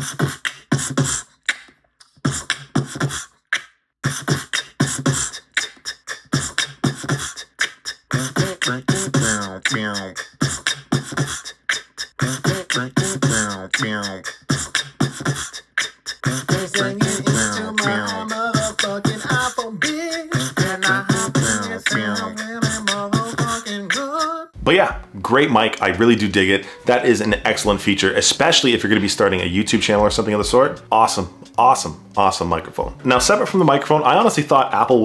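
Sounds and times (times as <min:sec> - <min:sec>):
man beatboxing: 0:00.0 - 0:03.4, 0:04.0 - 0:35.0
pitched vocal tones: 0:00.0 - 0:03.4, 0:04.0 - 0:35.0.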